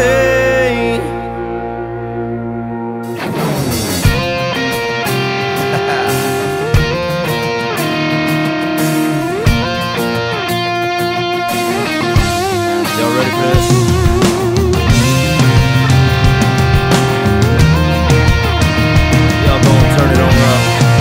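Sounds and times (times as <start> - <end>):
electric guitar lead: 0.0 - 21.0
band with heavy beat: 3.1 - 21.0.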